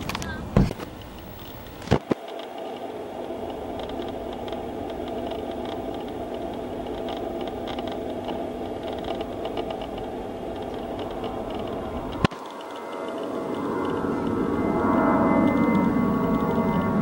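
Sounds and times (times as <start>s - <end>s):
faint crackle: 0.0s - 17.0s
jet engines humming and whining: 0.0s - 17.0s.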